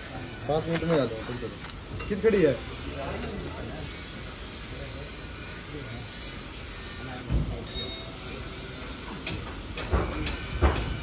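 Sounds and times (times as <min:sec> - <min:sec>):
refrigerant gas hissing: 0:00.0 - 0:07.6, 0:08.2 - 0:11.0.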